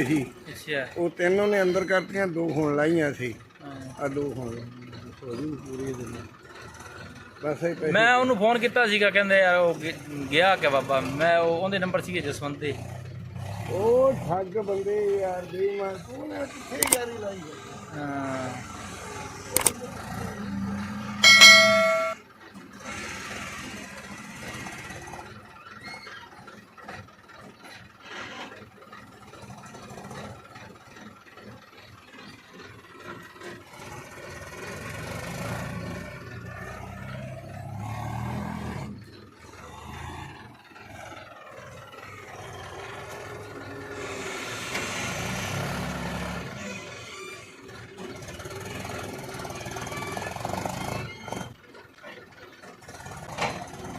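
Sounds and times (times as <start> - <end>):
diesel machinery engines revving: 0.0 - 53.9.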